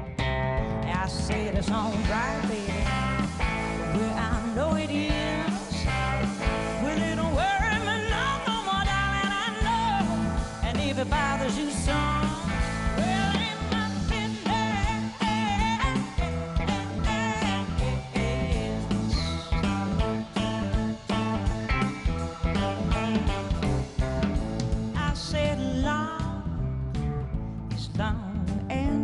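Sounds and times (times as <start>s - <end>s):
lead guitar bent notes: 0.0s - 25.4s
blues-rock band playing: 0.0s - 29.0s.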